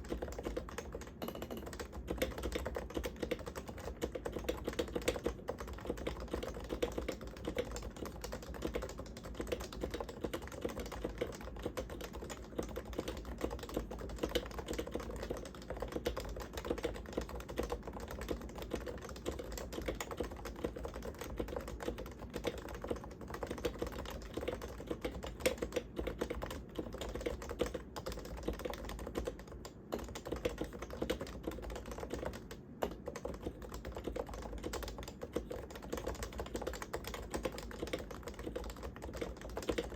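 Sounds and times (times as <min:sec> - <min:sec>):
fast typing on a keyboard: 0:00.0 - 0:39.9.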